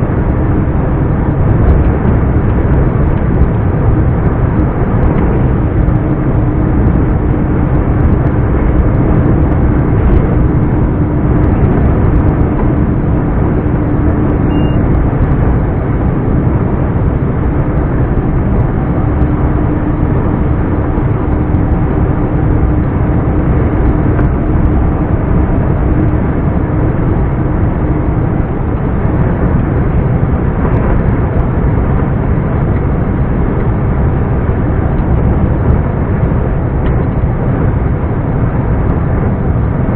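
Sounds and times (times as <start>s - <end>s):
diesel truck engine running: 0.0s - 39.9s
steady low hum: 0.0s - 39.9s.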